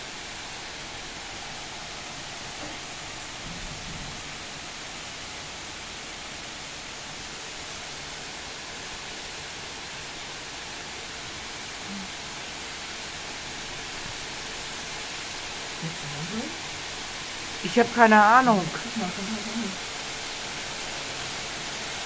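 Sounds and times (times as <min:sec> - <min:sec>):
heavy rain pouring on trees: 0:00.0 - 0:22.0.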